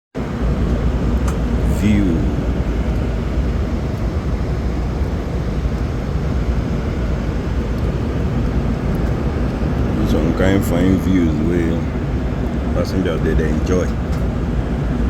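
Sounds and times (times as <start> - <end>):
airliner cabin drone: 0.2 - 15.0.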